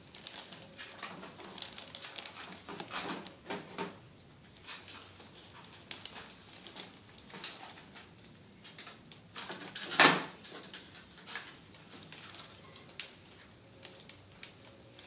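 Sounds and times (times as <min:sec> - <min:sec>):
kittens scratching and pattering: 0:00.0 - 0:15.0.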